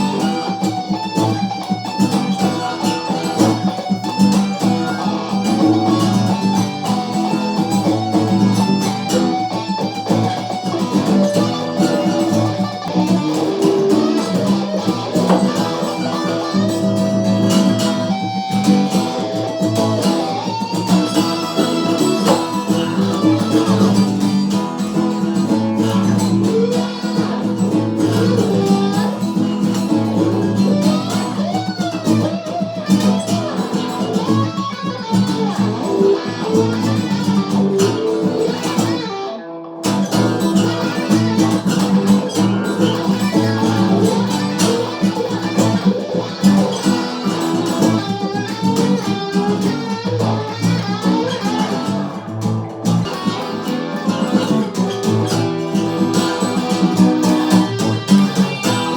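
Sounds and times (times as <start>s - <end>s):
guitar music: 0.0s - 58.9s.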